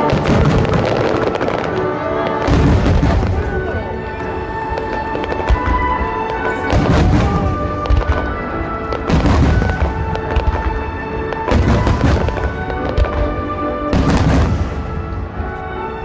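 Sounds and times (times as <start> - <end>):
fireworks booming: 0.0 - 15.6
music playing: 0.0 - 16.0.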